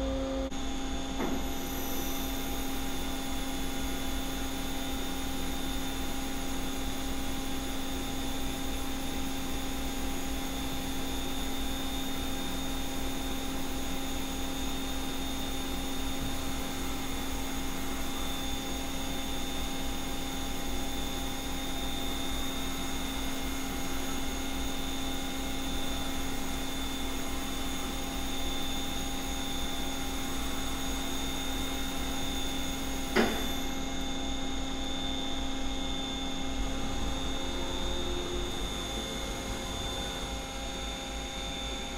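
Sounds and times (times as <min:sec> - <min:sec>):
lathe spindle humming with whine: 0:00.0 - 0:41.9.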